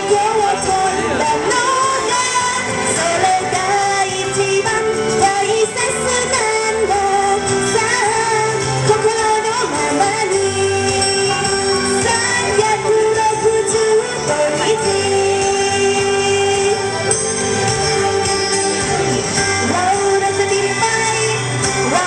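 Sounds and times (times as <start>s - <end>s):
pop backing track: 0.0s - 22.0s
woman singing into microphone: 0.0s - 22.0s.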